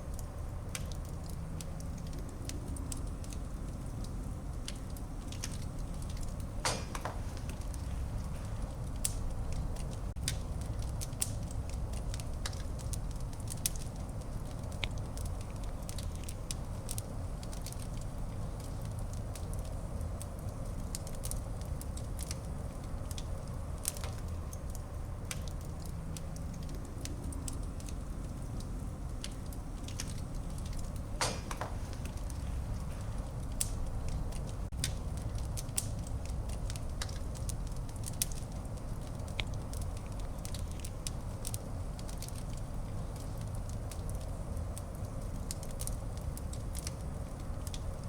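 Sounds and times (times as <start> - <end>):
fire crackling and popping: 0.0 - 48.0
fire flames rumbling: 0.0 - 48.0.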